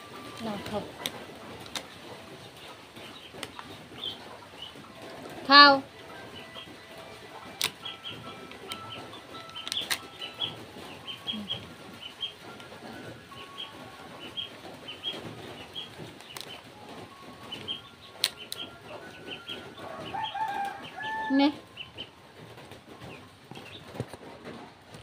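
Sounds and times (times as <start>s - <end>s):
small birds chirping: 0.0s - 22.2s, 22.9s - 24.1s.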